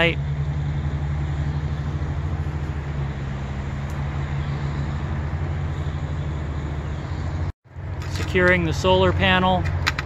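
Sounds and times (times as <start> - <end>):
road traffic drone: 0.0 - 10.0.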